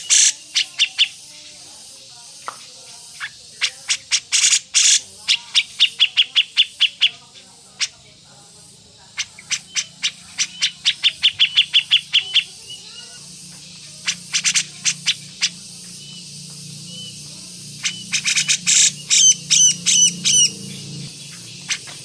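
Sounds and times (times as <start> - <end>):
songbird sharp repeated calls: 0.0 - 22.0.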